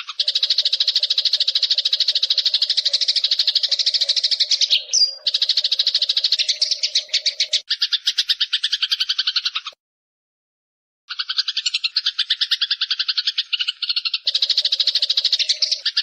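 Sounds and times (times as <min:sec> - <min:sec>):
sparrow chirping: 0:00.0 - 0:09.8, 0:11.1 - 0:16.0.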